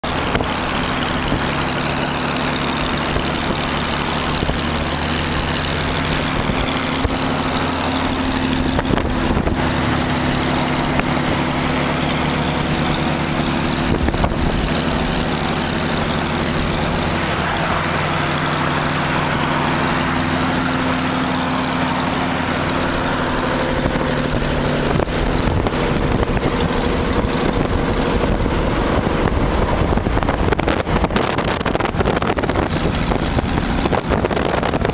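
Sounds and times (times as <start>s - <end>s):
car engine running: 0.0s - 34.9s
road noise: 0.0s - 34.9s.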